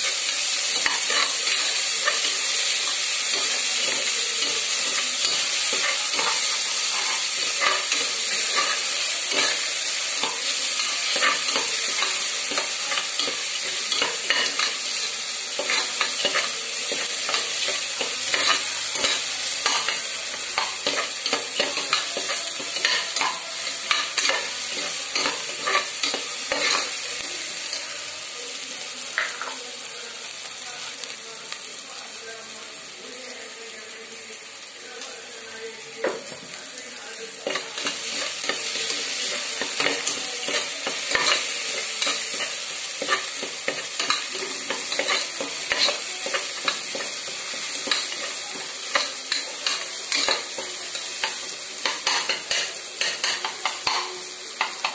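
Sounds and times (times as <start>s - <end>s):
chicken sizzling in a pot: 0.0s - 54.9s.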